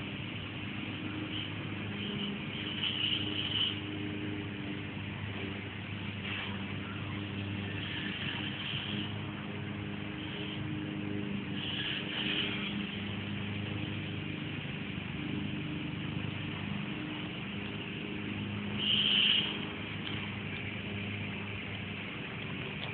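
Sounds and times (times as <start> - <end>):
low engine hum: 0.0 - 22.9
outdoor noise haze: 0.0 - 22.9.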